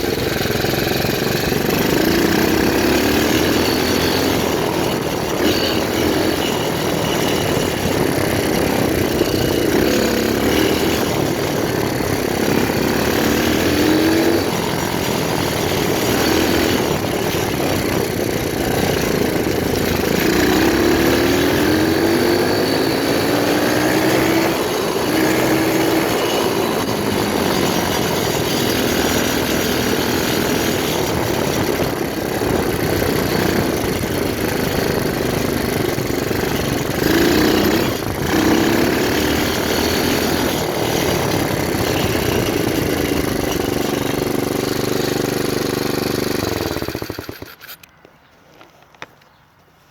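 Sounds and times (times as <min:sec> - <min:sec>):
pit bike engine revving: 0:00.0 - 0:47.9.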